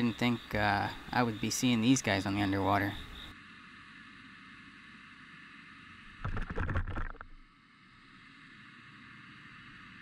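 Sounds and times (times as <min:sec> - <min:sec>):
faint steady hiss: 0:00.0 - 0:06.4, 0:07.3 - 0:10.0.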